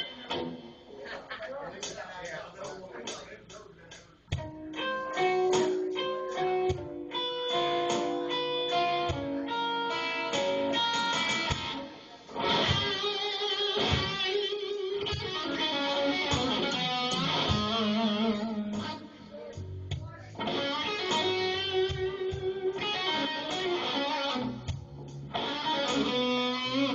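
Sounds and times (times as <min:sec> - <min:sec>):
electric guitar lead: 0:00.0 - 0:01.0, 0:04.3 - 0:26.9.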